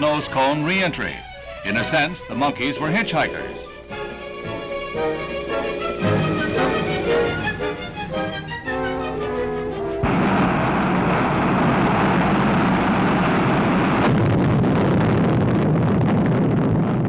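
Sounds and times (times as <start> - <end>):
rocket engine roar: 1.6 - 17.0.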